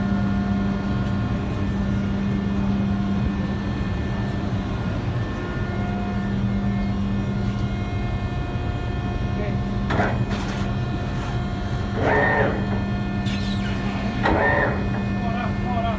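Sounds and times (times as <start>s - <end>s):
ship machinery droning: 0.0s - 15.9s.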